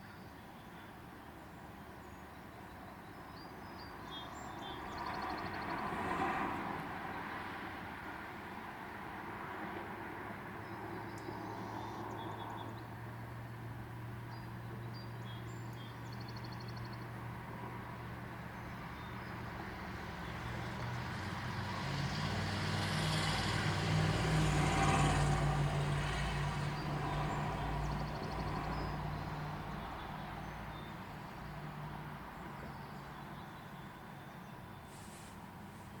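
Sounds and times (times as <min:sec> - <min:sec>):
vehicle engine hum passing: 0:04.2 - 0:36.0.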